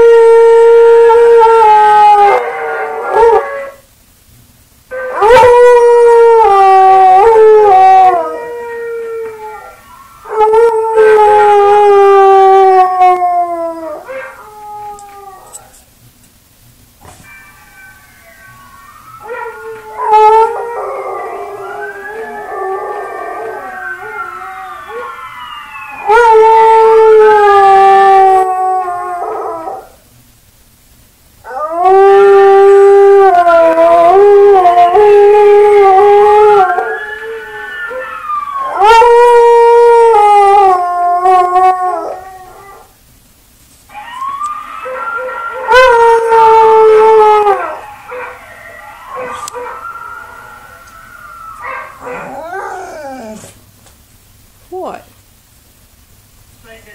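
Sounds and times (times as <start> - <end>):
dog howling: 0.0 - 3.8, 4.9 - 15.8, 17.4 - 30.0, 31.4 - 42.9, 43.9 - 53.6.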